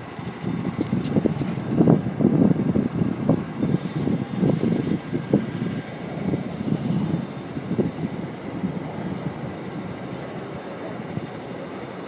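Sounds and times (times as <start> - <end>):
heat pump low rumble: 0.0 - 12.0.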